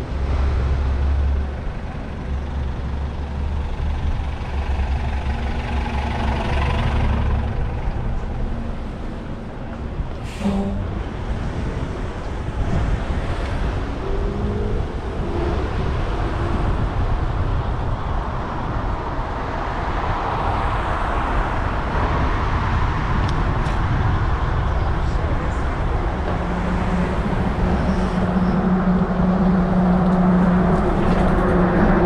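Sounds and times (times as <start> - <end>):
traffic hiss of cars and tyres: 0.0 - 31.4
wind rumbling on microphone: 0.0 - 32.0.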